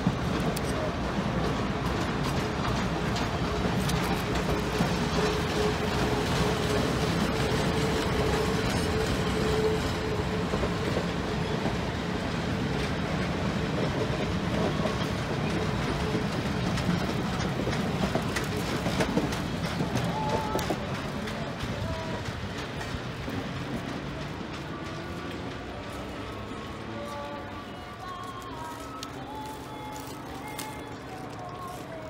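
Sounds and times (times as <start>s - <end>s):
rail clatter: 0.0s - 32.0s
train wheels rumbling on rails: 0.0s - 32.0s.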